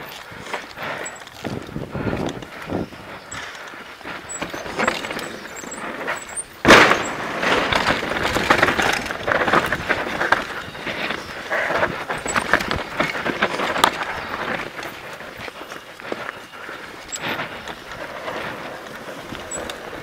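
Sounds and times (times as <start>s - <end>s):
mountain bike rattling over dirt: 0.0s - 20.0s
bike jolt: 0.4s - 20.0s.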